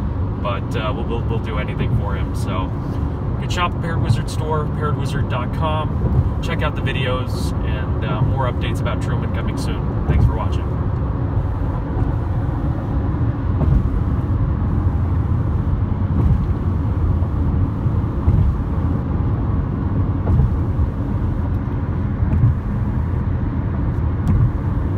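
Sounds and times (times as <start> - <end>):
car road noise rumble: 0.0 - 24.9.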